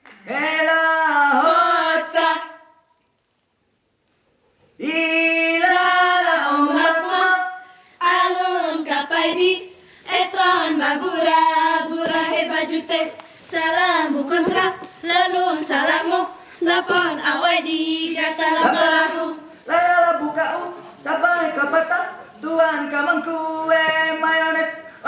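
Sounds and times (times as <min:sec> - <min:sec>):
unaccompanied group singing: 0:00.2 - 0:02.8, 0:04.8 - 0:25.0.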